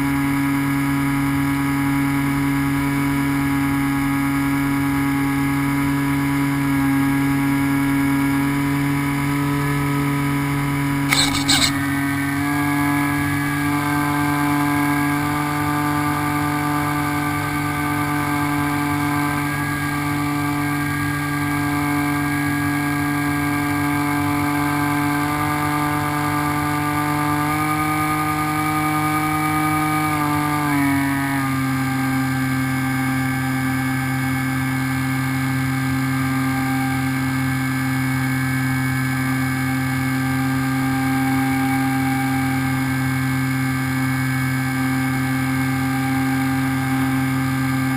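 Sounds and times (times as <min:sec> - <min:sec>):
model plane motor whine: 0:02.6 - 0:47.9.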